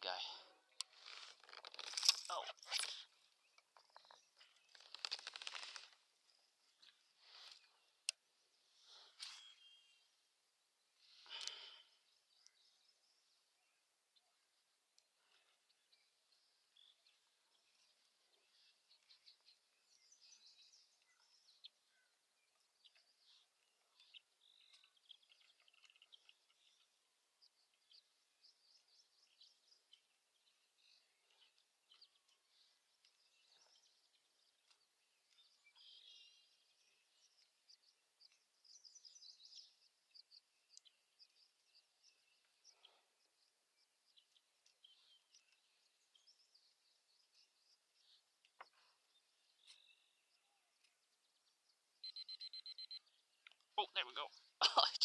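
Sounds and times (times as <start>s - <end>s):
small birds chirping and trilling: 0.0s - 54.6s.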